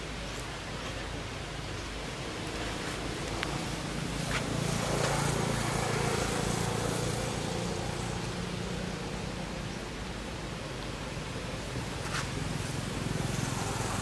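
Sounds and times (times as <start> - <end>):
outdoor hiss: 0.0 - 14.0
vehicle engine hum: 0.0 - 14.0.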